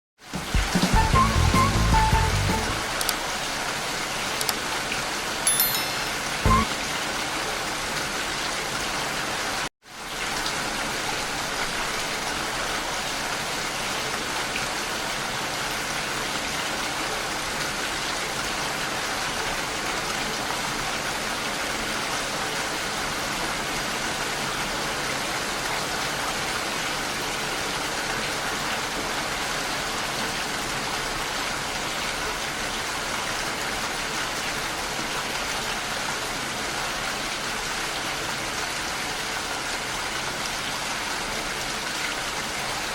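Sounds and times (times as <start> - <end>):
steady rain falling: 0.2 - 5.5, 6.2 - 42.9.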